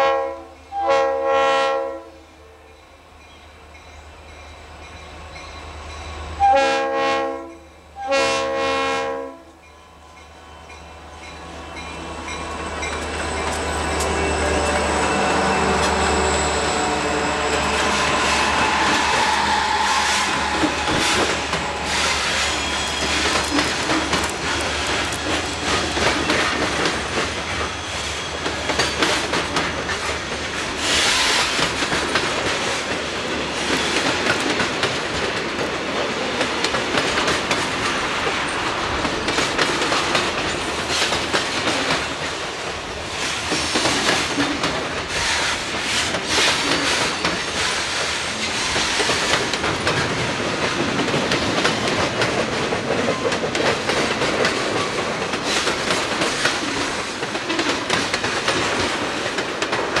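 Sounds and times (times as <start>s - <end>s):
train wheels clacking on rail joints: 10.7s - 60.0s.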